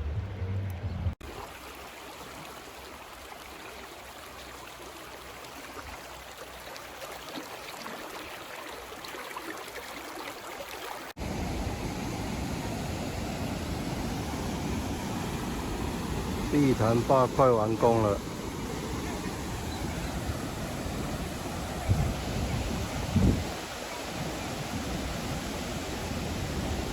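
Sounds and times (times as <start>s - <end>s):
creek water rushing: 0.8s - 26.9s.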